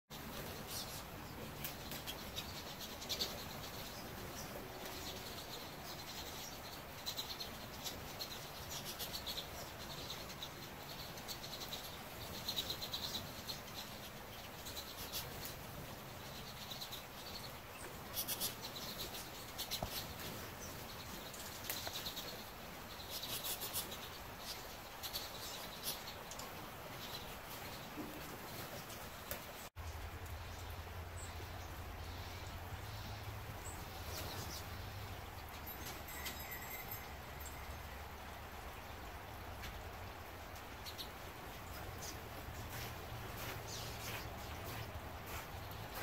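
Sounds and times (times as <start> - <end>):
birds twittering chirps: 0.1 - 46.0.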